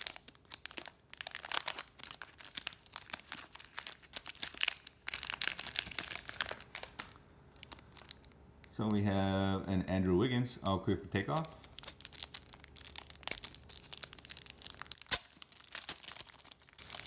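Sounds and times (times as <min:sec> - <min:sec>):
foil pack crinkling torn open: 0:00.0 - 0:08.4, 0:11.3 - 0:17.0.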